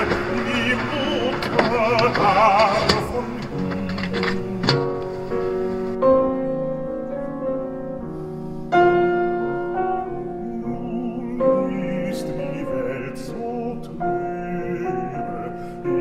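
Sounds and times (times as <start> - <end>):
slow background music: 0.0 - 16.0.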